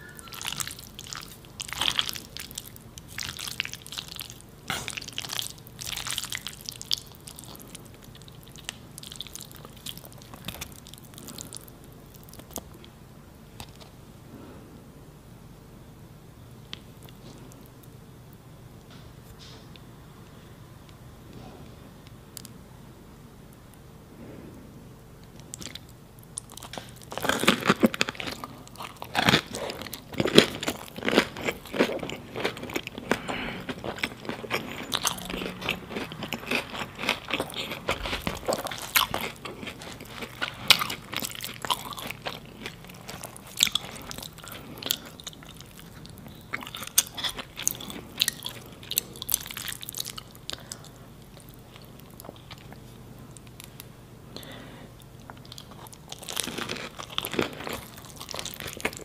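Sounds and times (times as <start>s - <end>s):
crunchy eating and chewing: 0.0s - 14.6s, 25.2s - 59.0s.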